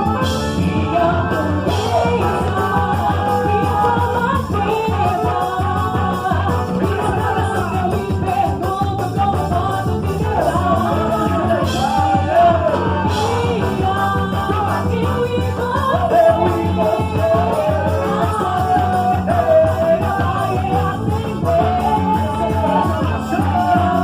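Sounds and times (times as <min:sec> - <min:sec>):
upbeat folk dance music with singing: 0:00.0 - 0:24.0.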